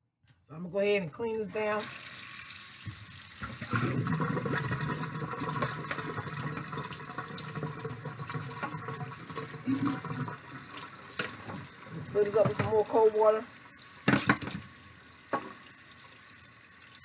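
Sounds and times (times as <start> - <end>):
tap water running into sink: 1.5 - 17.0.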